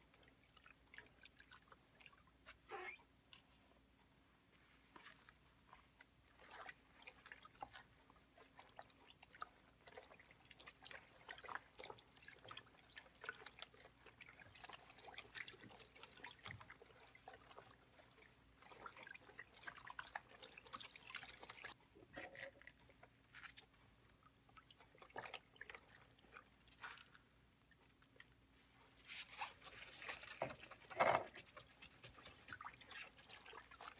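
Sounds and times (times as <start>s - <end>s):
wet cloth squishing and sloshing: 0.0s - 3.9s, 4.6s - 33.9s.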